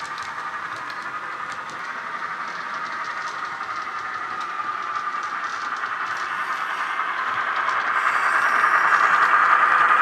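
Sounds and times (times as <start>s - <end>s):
model wheels clicking on track: 0.0s - 10.0s
diesel engine sound from small speaker: 0.8s - 10.0s.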